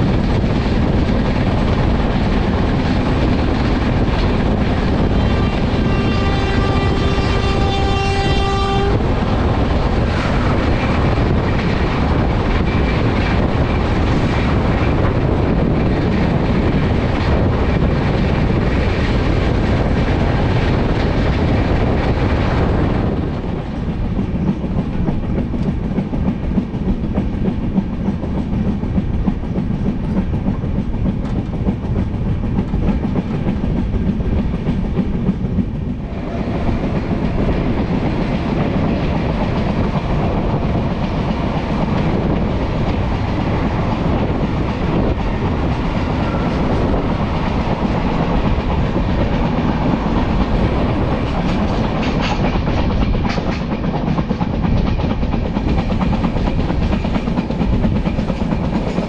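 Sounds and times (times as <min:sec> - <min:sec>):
train rumbling at speed: 0:00.0 - 0:59.0
wheels clacking over rails: 0:08.9 - 0:59.0.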